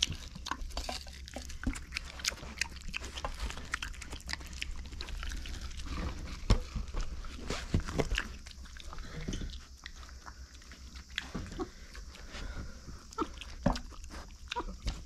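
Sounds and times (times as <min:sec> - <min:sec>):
pig chewing food: 0:00.0 - 0:15.0.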